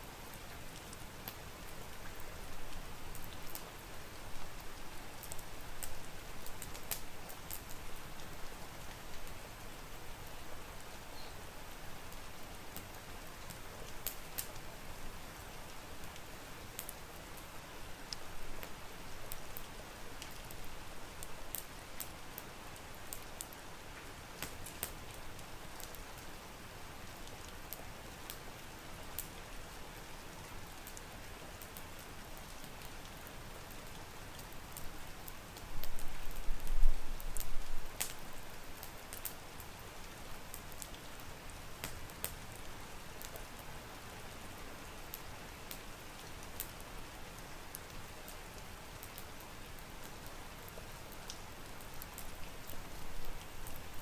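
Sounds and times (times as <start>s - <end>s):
rain falling: 0.0s - 54.0s
wood fire crackling: 0.1s - 54.0s.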